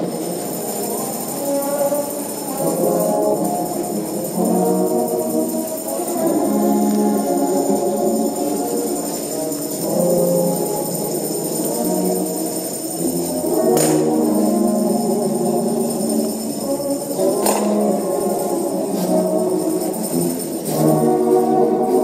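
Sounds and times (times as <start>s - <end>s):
gospel music with held chords: 0.0s - 22.0s
sharp percussion hits: 0.0s - 22.0s.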